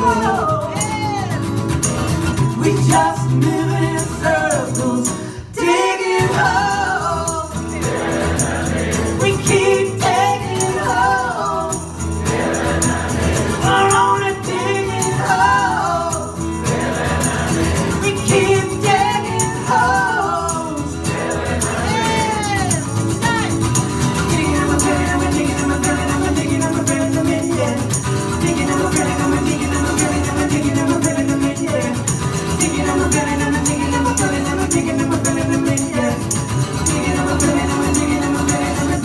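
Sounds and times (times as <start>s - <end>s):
women singing folk song: 0.0s - 1.6s, 2.3s - 39.0s.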